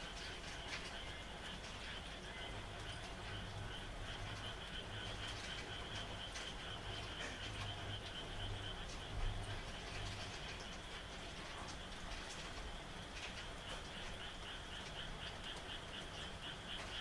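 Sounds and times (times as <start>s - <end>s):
frogs trilling and croaking: 0.0s - 17.0s
raindrop patter: 0.0s - 17.0s.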